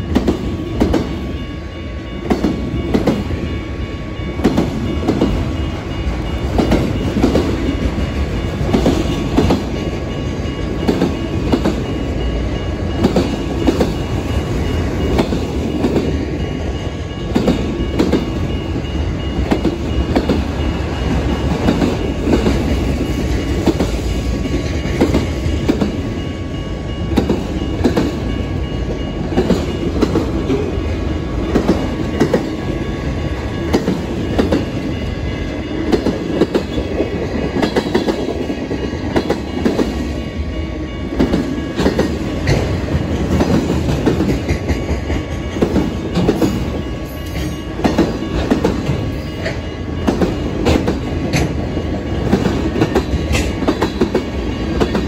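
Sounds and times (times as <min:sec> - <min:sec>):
freight train cars rumbling: 0:00.0 - 0:55.0.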